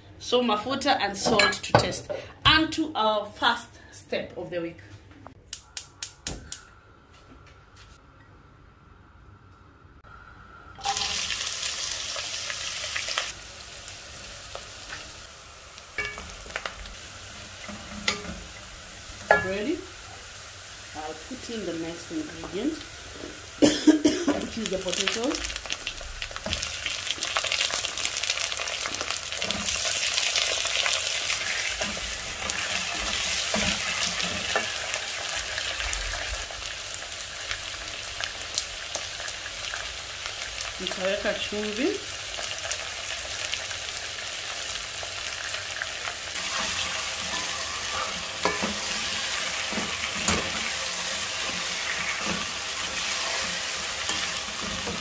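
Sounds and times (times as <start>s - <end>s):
onions sizzling in oil: 10.8s - 55.0s.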